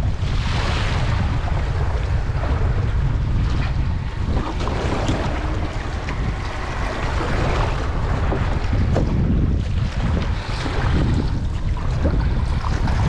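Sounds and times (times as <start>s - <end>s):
water slapping against boat: 0.0s - 13.0s
wind buffeting microphone: 0.0s - 13.0s.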